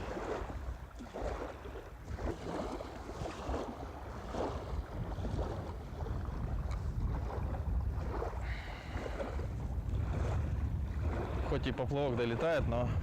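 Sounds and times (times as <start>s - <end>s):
small waves lapping: 0.0s - 13.0s
wind buffeting microphone: 0.0s - 13.0s.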